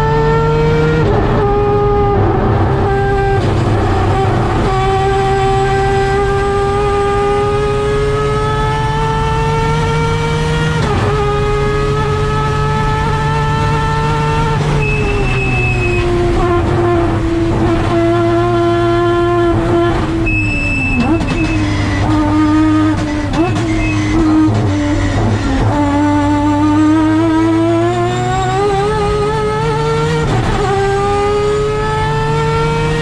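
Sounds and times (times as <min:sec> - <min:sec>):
rotary engine accelerating: 0:00.0 - 0:33.0.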